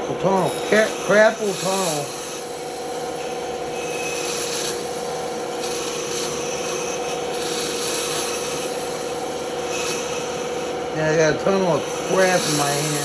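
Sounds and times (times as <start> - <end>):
band saw cutting wood: 0.0 - 13.0.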